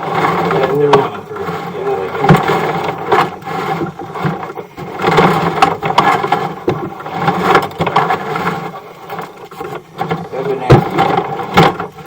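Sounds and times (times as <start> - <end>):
camera cable scraping in pipe: 0.0 - 12.0.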